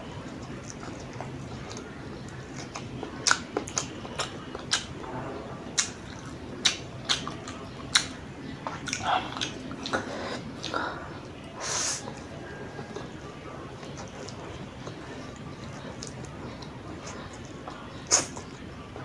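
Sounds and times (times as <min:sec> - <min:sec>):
chewing noodles: 0:00.2 - 0:05.0, 0:05.7 - 0:18.6.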